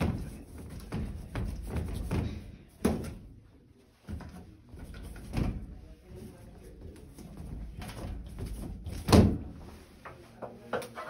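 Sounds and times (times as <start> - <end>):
ceiling tiles knocking and rattling: 0.0 - 3.3, 4.0 - 5.9, 6.8 - 11.0.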